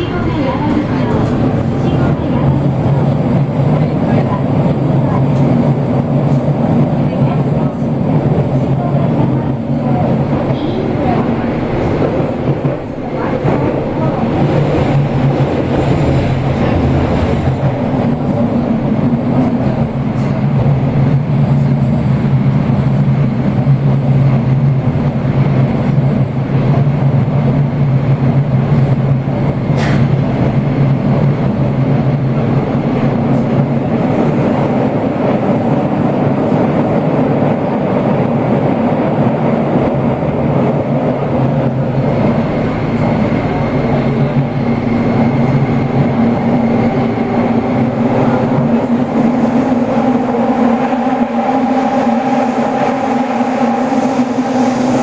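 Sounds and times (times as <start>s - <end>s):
subway train running in tunnel: 0.0s - 55.0s.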